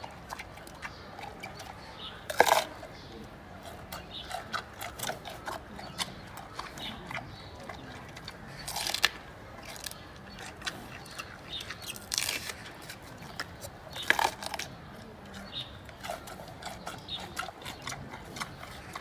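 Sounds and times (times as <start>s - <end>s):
panda chewing bamboo: 0.0s - 19.0s.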